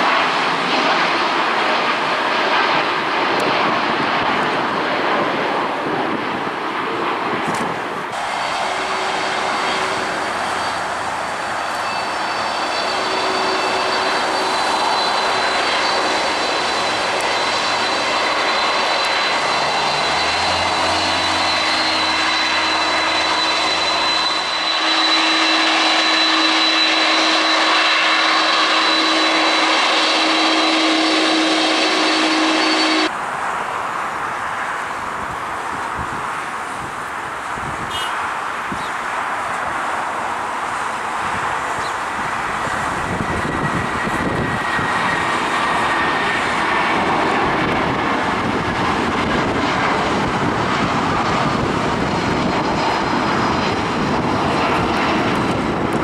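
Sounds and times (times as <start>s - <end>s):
jet engines with high fan whine: 0.0s - 56.0s.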